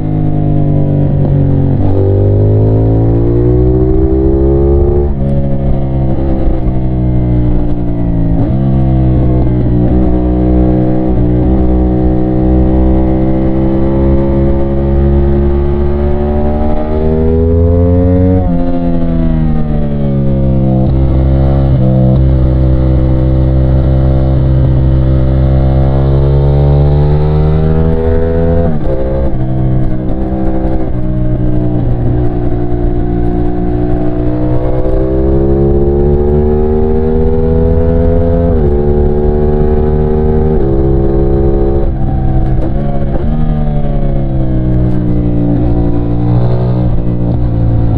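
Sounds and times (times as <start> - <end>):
motorcycle engine shifting gears: 0.0 - 47.9.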